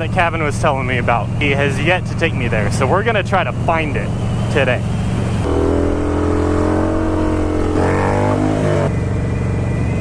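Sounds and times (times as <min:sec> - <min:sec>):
higher motorcycle engine note: 0:00.0 - 0:10.0
motorcycle engine rumble: 0:00.0 - 0:10.0
wind: 0:00.0 - 0:10.0.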